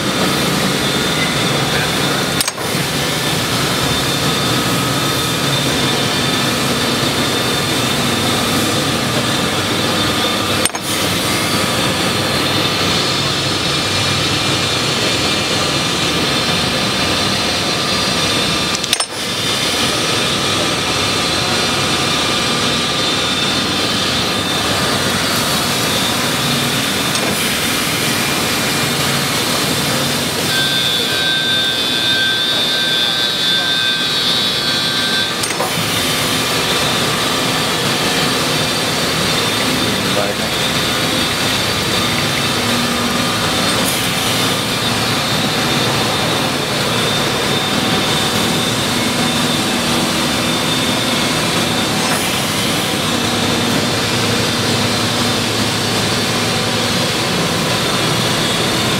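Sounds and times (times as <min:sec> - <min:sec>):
surface grinder whirring: 0:00.0 - 0:58.9.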